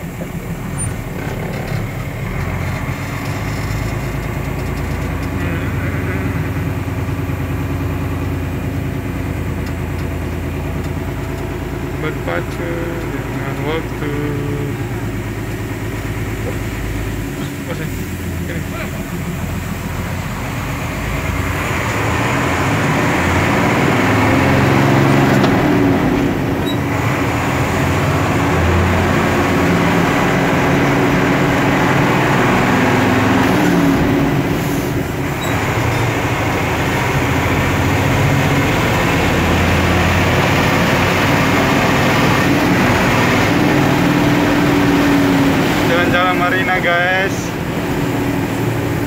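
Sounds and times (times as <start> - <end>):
fire truck engine running: 0.0 - 49.0.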